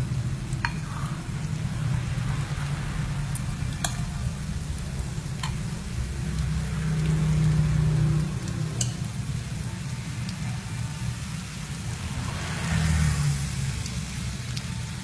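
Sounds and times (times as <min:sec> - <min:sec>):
fritter sizzling in hot oil: 0:00.0 - 0:15.0.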